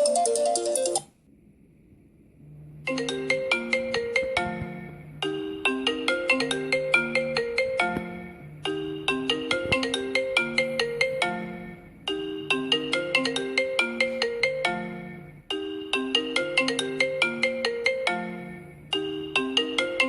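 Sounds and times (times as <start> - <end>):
phone ringtone melody: 0.0 - 1.1, 2.8 - 20.0.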